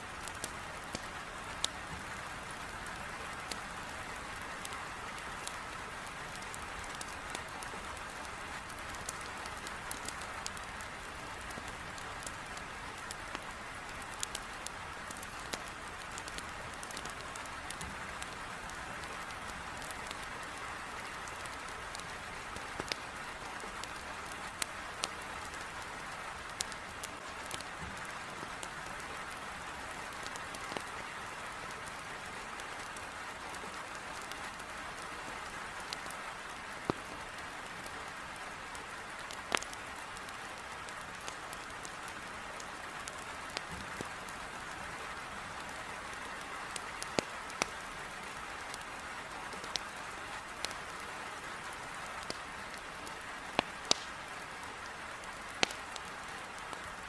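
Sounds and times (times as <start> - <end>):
firewood crackling: 0.0 - 57.0
heavy rain against a window: 0.0 - 57.0.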